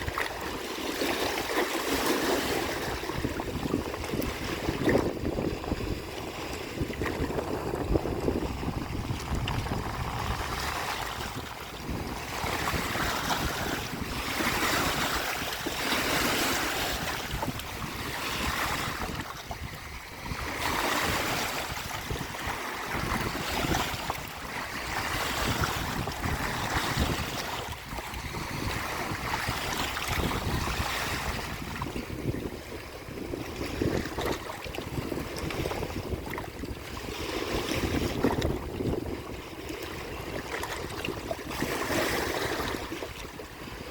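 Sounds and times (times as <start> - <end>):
waves washing on shore: 0.0 - 43.9
wind buffeting microphone: 0.0 - 43.9.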